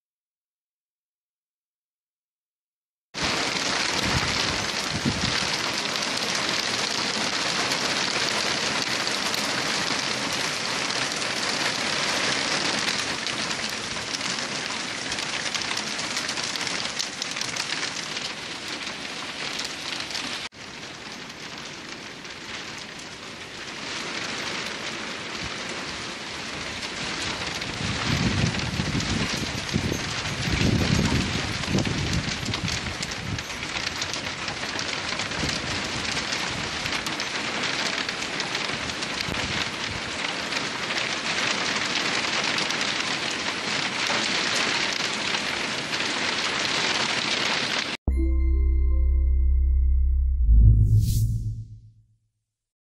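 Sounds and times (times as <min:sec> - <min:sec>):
hail hitting the ground: 0:03.2 - 0:48.0.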